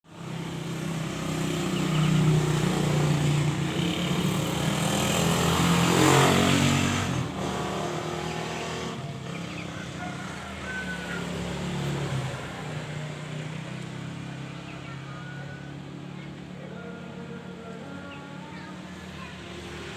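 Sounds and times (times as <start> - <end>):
vehicle engine passing by: 0.1 - 19.9.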